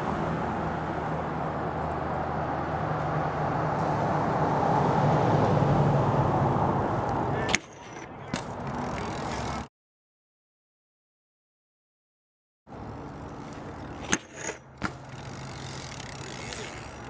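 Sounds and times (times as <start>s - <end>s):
road traffic hum: 0.0s - 9.7s, 12.7s - 17.0s.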